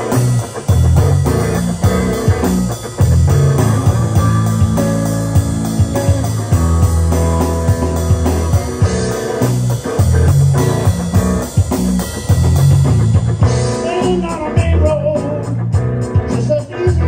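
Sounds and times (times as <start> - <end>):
gliding guitar line: 0.0 - 17.0
rock band playing: 0.0 - 17.0.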